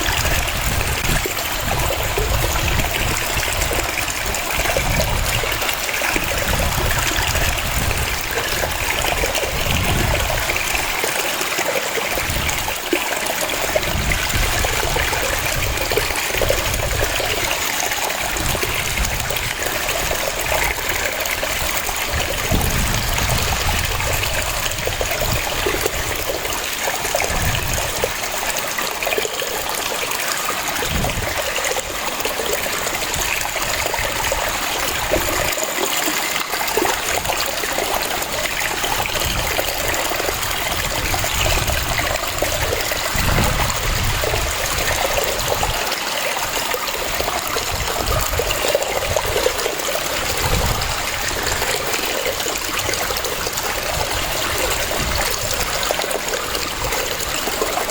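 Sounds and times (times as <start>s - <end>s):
waterfall cascading: 0.0s - 57.9s.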